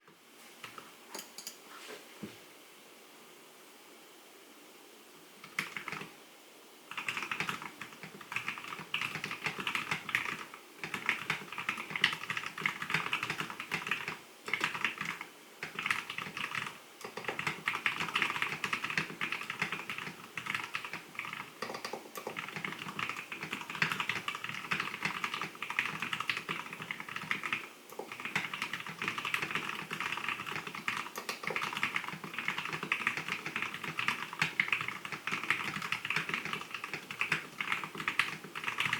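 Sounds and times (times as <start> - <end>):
mechanical keyboard typing: 5.4 - 6.1, 6.9 - 38.9.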